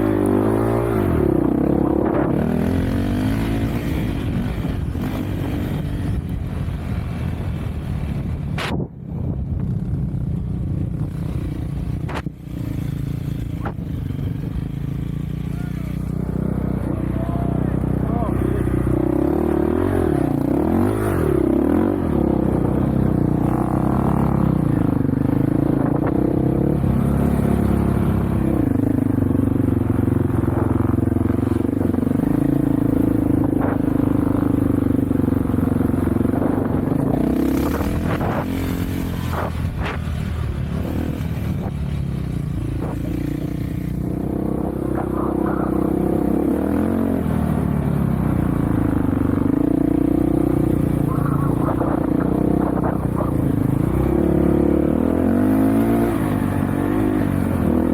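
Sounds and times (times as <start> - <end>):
off-road vehicle engine revving: 0.0 - 5.8, 15.4 - 57.9.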